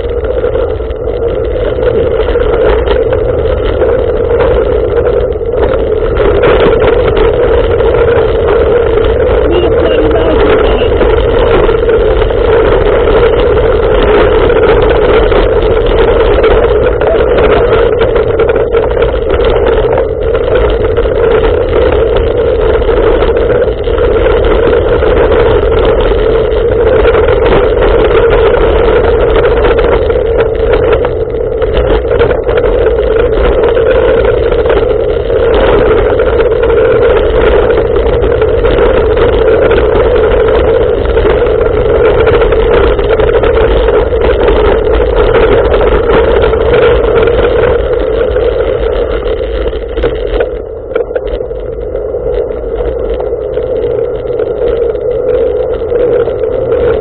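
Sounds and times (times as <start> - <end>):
bicycle tyres on gravel: 0.0 - 57.0
wind on microphone: 0.0 - 57.0.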